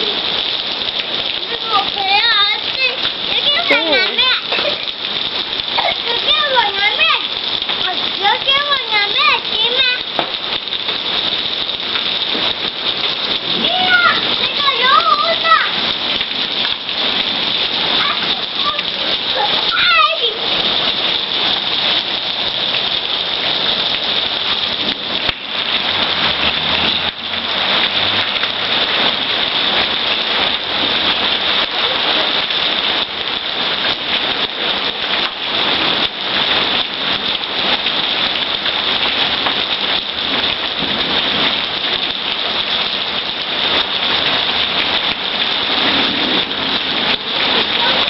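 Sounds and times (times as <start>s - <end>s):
heavy rain on hard surfaces: 0.0s - 48.0s.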